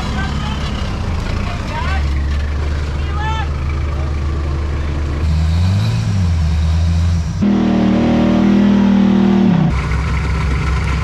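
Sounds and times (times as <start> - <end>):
off-road engines revving: 0.0 - 11.0.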